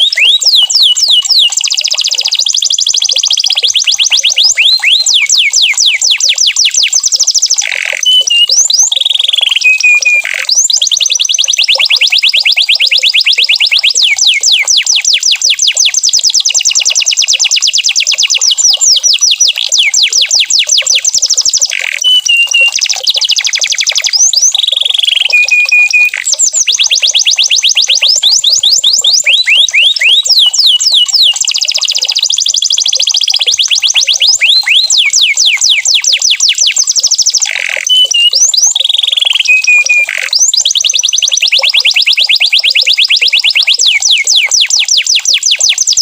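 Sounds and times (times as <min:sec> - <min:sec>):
canary singing: 0:00.0 - 0:46.0.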